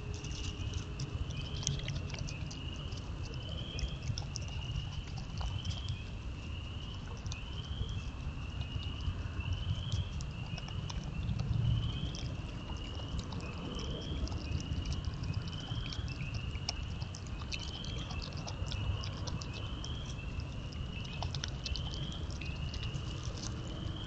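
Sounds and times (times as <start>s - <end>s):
animal chewing and crunching seed: 0.0s - 24.0s.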